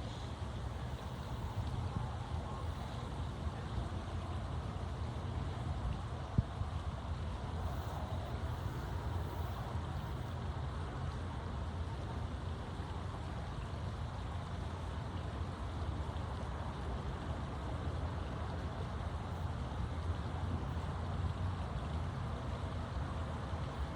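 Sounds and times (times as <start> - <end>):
faint hiss: 0.0 - 23.9.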